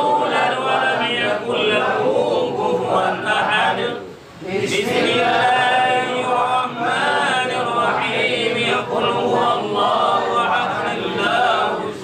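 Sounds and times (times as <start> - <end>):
men chanting together: 0.0 - 12.0.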